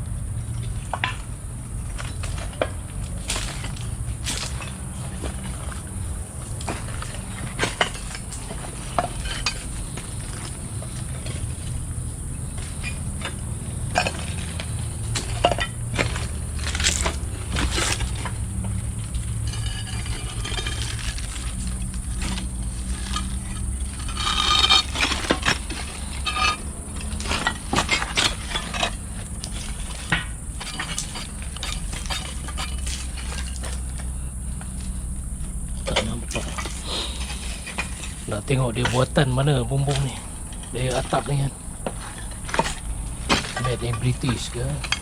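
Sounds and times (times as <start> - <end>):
steady low hum: 0.0 - 45.0
clinks and crunches of debris: 0.4 - 45.0.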